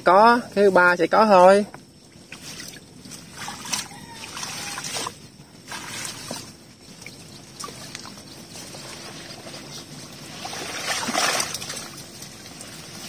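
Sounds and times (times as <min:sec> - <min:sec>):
water sloshing: 0:02.0 - 0:13.0
plants rustling: 0:02.2 - 0:13.0.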